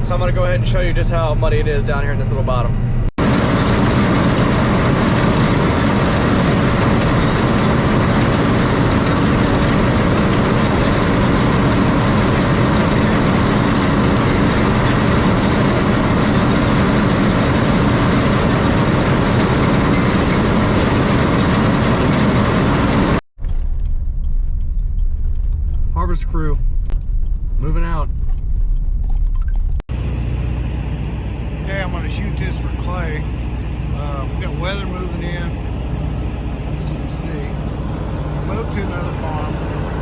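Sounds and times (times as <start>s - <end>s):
combine harvester engine running: 0.0s - 23.2s, 29.9s - 40.0s.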